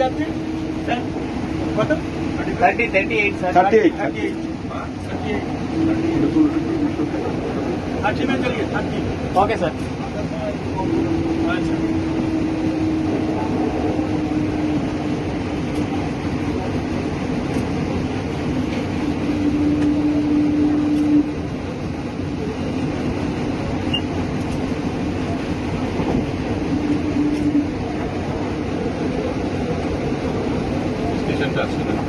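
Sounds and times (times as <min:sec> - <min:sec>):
train rail rumble: 0:00.0 - 0:32.0.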